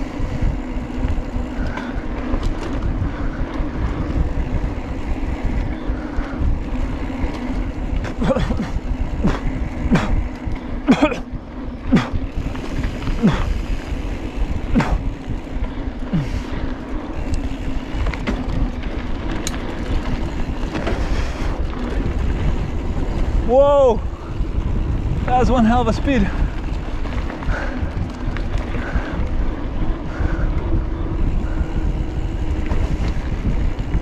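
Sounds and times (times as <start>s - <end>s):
bike clacking and rattling: 0.0s - 34.0s
tyres humming on dirt: 0.0s - 34.0s
wind rushing over microphone: 0.0s - 34.0s.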